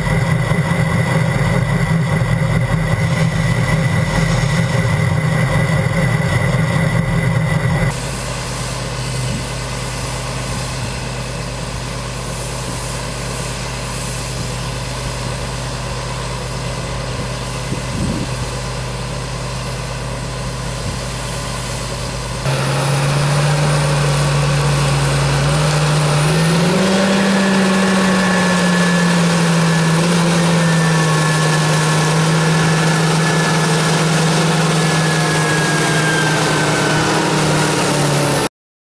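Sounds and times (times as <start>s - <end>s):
grain auger unloading corn: 0.0s - 38.5s
tractor engine running: 0.0s - 38.5s.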